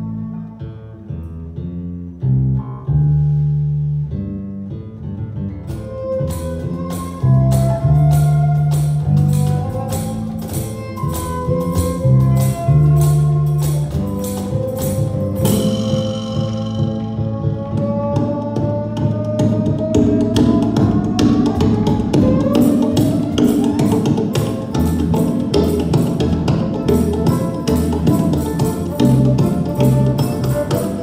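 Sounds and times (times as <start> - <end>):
plucked bass guitar: 0.0 - 31.0
percussion beat: 5.7 - 31.0
violin long held notes: 5.7 - 31.0.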